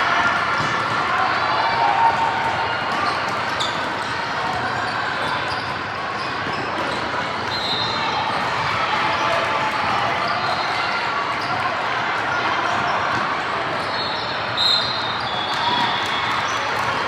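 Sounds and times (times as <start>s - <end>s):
murmur of voices: 0.0s - 17.0s.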